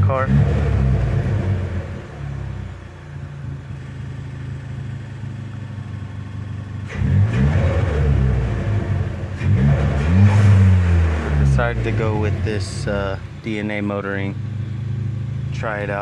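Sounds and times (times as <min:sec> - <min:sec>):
car exhaust idling and revving: 0:00.0 - 0:16.0.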